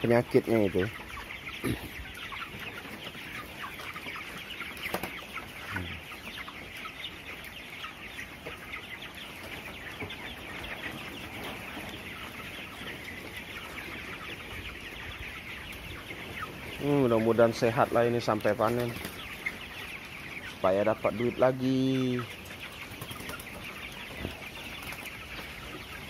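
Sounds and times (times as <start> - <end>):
chickens clucking and peeping: 0.0 - 26.0.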